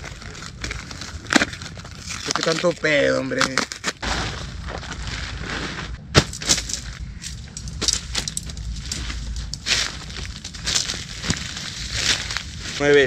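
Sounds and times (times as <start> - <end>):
tent fabric rustling: 0.0 - 13.0.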